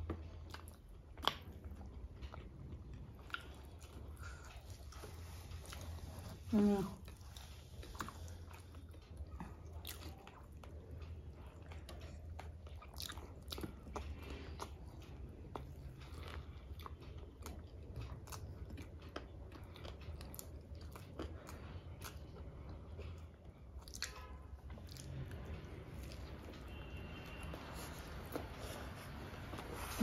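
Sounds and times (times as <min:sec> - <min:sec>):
low steady hum: 0:00.0 - 0:30.0
people chewing burgers: 0:00.0 - 0:30.0.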